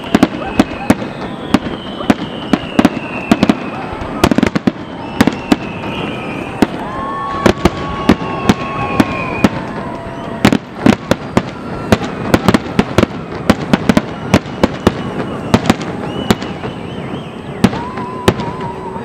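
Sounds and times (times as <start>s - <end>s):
fireworks bangs: 0.0s - 19.0s
long high whistling tones: 0.0s - 19.0s.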